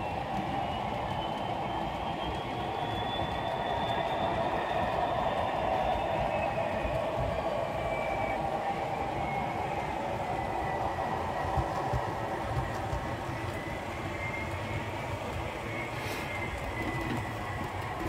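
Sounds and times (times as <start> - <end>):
model train wheels rumbling on rail: 0.0 - 18.0
thin steady whine: 0.0 - 18.0.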